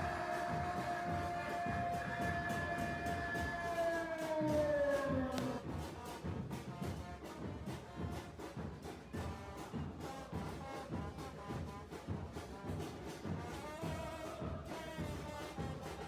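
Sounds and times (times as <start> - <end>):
brass-led music with steady beat: 0.0 - 16.0.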